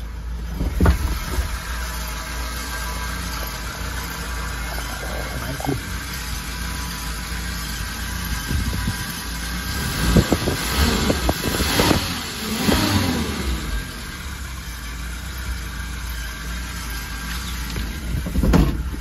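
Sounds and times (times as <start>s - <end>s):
truck engine idling and revving: 0.0s - 19.0s.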